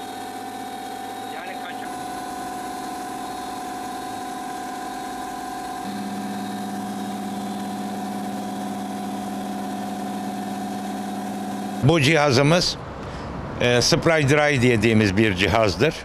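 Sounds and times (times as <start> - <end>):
low machinery hum: 0.0 - 16.0
machinery whining tone: 0.0 - 16.0.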